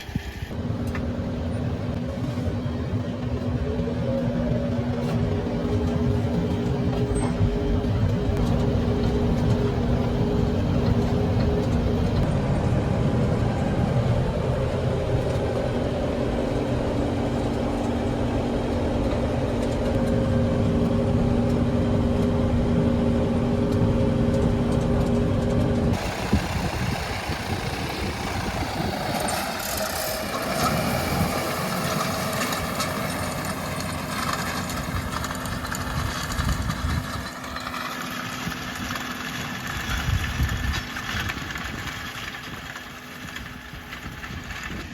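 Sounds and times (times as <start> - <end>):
tractor engine drone: 0.0 - 44.9.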